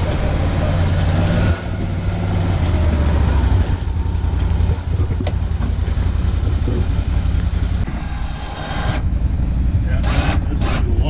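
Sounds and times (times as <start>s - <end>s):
vehicle engine running at low speed: 0.0s - 11.0s.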